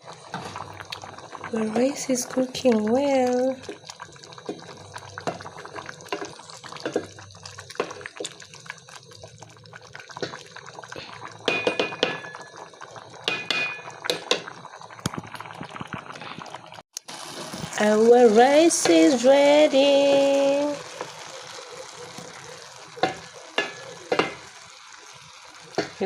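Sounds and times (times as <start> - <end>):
rice bubbling in a pot: 0.0 - 26.0.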